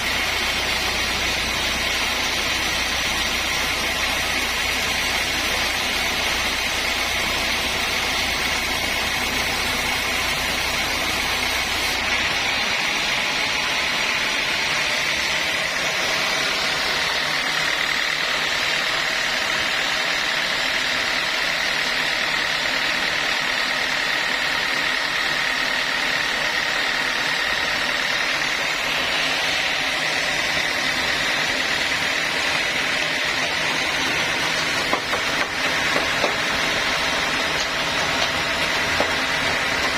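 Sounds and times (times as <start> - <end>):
sawmill saw whining through log: 0.0 - 39.9.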